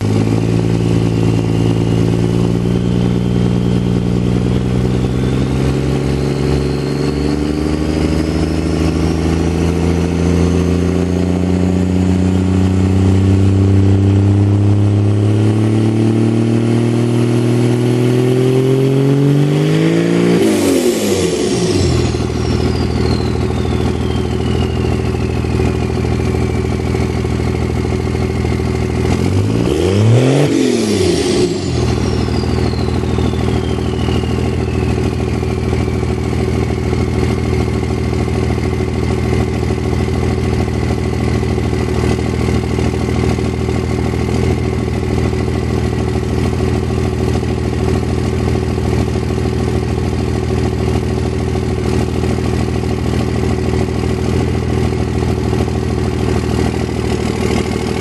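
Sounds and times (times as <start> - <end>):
high whine falling in pitch: 0.0 - 16.6, 17.5 - 46.7, 51.2 - 58.0.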